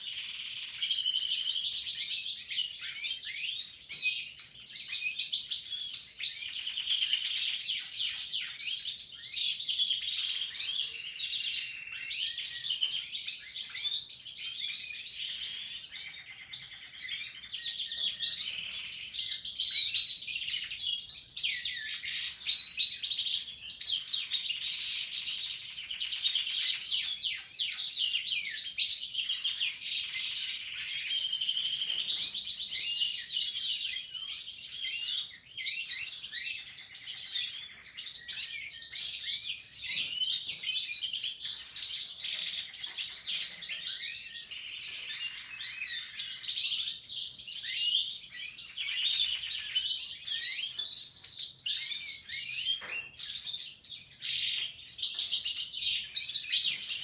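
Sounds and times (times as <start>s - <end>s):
birds twittering and trilling: 0.0s - 57.0s.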